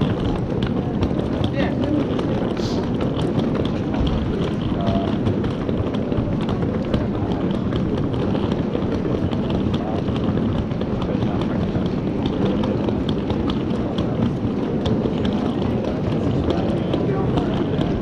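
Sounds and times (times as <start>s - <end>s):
footsteps on paving stones: 0.0s - 18.0s
passers-by voices: 0.0s - 18.0s
street rumble: 0.0s - 18.0s.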